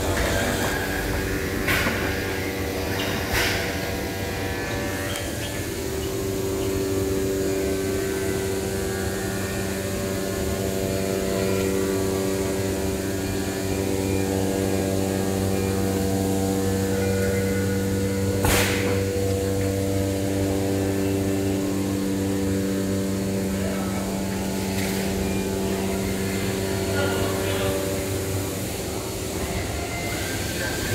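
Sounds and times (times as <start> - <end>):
cutting machine humming: 0.0 - 30.9.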